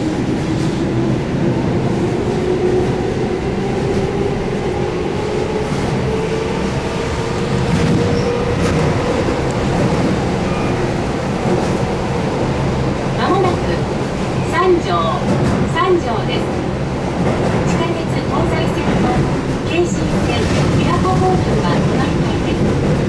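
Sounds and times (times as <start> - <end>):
train wheel and rail noise: 0.0 - 23.0.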